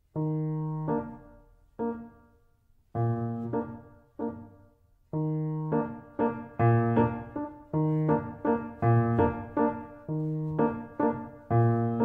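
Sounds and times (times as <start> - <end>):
keyboard chords: 0.1 - 2.3, 3.0 - 12.0.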